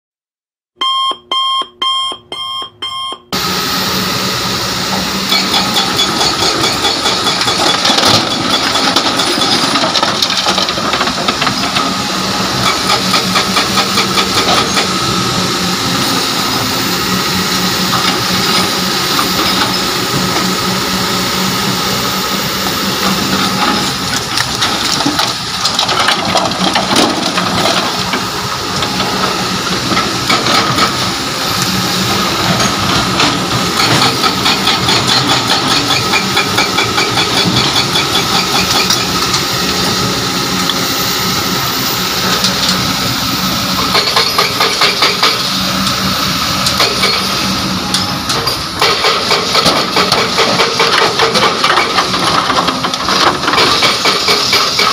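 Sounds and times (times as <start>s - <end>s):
excavator diesel engine running: 3.2s - 54.9s.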